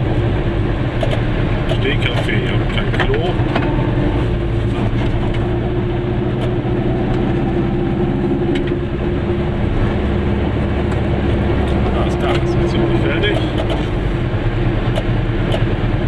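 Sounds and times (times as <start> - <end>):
two-stroke car engine running: 0.0 - 16.0.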